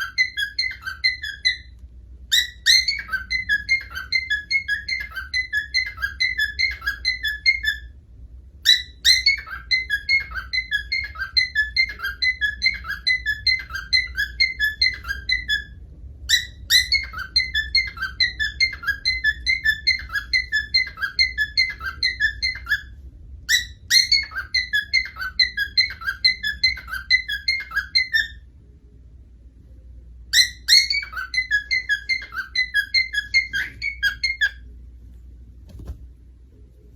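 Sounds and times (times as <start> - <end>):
bird chirping whistles: 0.0 - 8.0, 8.6 - 28.5, 30.3 - 34.7.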